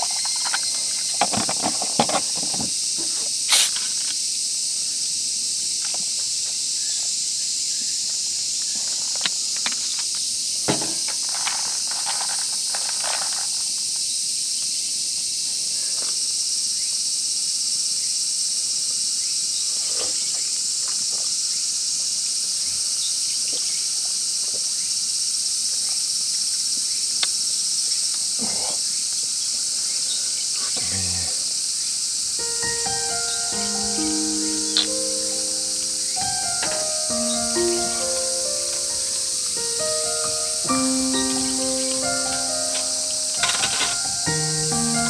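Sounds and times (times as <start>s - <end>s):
insects buzzing: 0.0s - 45.0s.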